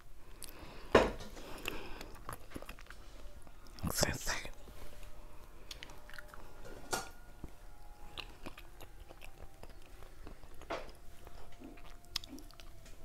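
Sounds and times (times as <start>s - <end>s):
crunchy cookie chewing: 0.2s - 13.0s.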